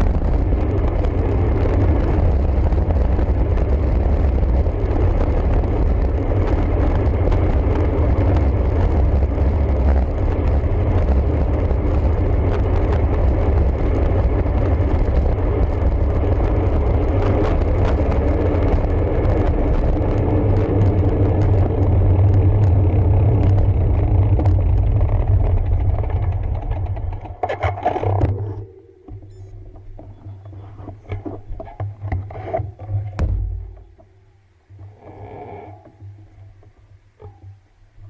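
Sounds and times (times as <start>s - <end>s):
wind buffeting microphone: 0.0s - 34.2s
bicycle tyre rumble: 0.0s - 38.0s.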